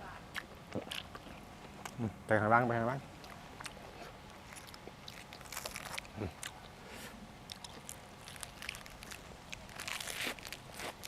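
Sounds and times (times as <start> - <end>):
person chewing food: 0.3 - 2.0, 3.2 - 11.0.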